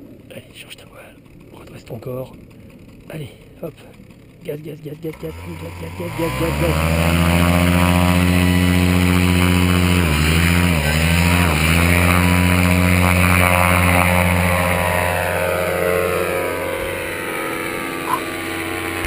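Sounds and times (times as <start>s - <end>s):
paramotor engine at full throttle: 0.0s - 19.0s.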